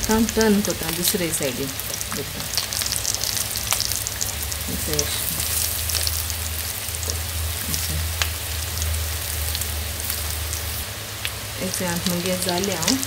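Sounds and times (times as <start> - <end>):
slices sizzling in hot oil: 0.0 - 13.0
steady low hum: 0.0 - 13.0.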